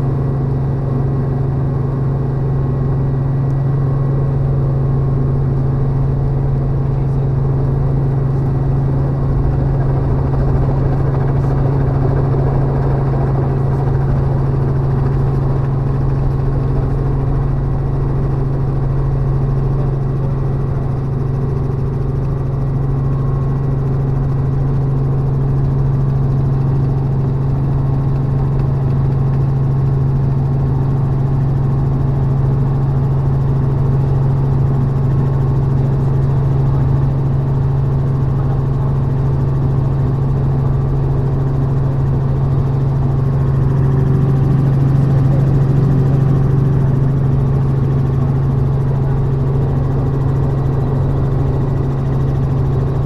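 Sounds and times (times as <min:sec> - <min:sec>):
helicopter cabin drone: 0:00.0 - 0:53.0.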